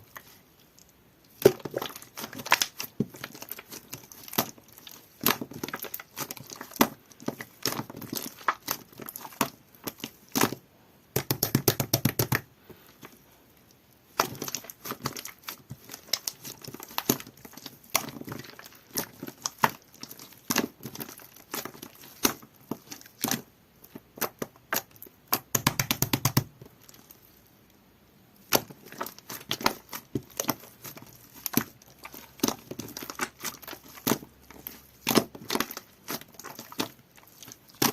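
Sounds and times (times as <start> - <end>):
slime squishing with wet clicks: 0.0 - 37.9.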